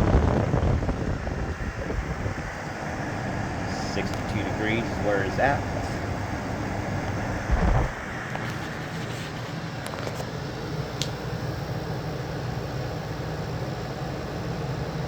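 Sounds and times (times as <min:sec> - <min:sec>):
air conditioner fan and compressor hum: 0:00.0 - 0:15.0.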